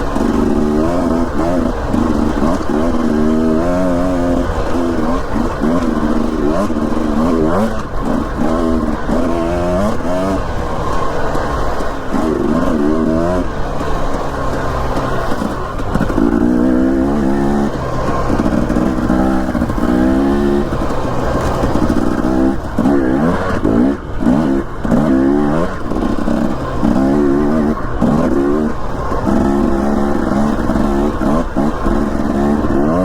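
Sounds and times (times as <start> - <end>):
dirt bike engine accelerating: 0.0 - 33.0.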